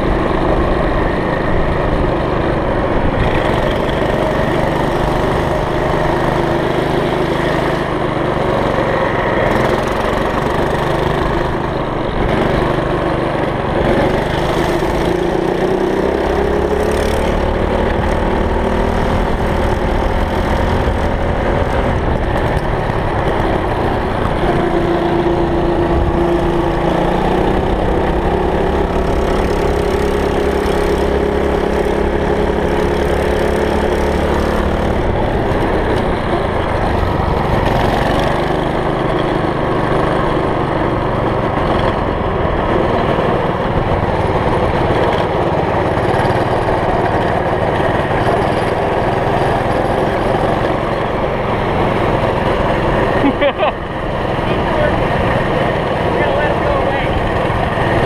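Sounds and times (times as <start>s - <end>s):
small petrol engines revving: 0.0s - 58.0s.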